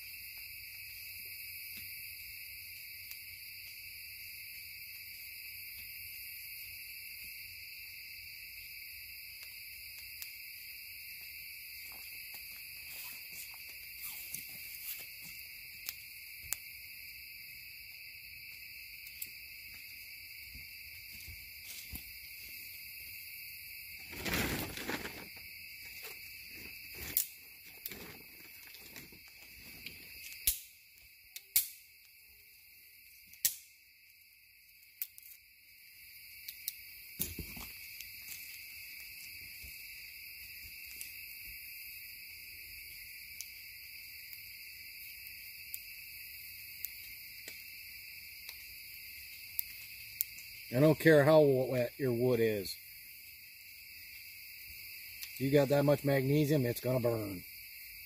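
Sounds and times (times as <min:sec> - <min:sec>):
campfire crackling and popping: 0:00.0 - 0:58.0
crickets chirring: 0:00.0 - 0:58.0.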